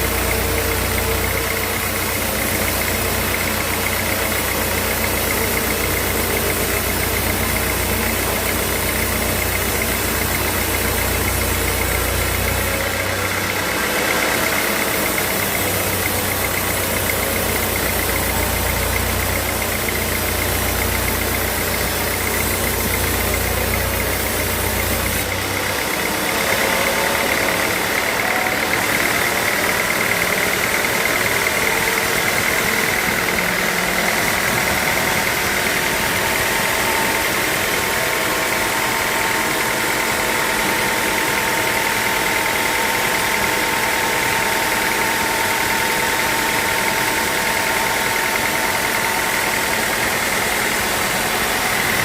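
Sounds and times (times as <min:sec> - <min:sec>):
sawmill machinery whine: 0:00.0 - 0:52.0.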